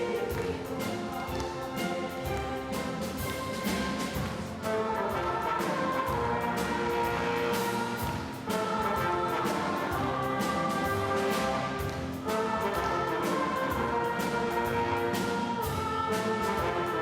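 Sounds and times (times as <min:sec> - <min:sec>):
orchestra playing classical music: 0:00.0 - 0:17.0.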